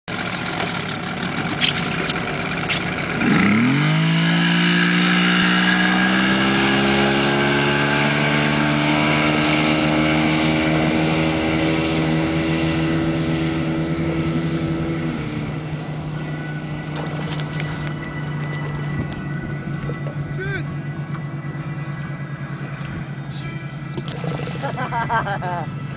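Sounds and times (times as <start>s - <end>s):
outboard motor revving: 0.1s - 25.9s.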